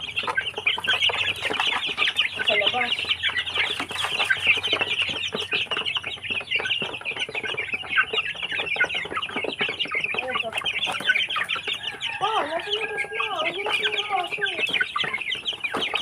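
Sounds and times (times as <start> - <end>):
beaks pecking at feed trays: 0.0 - 16.0
chickens and chicks peeping and clucking: 0.0 - 16.0.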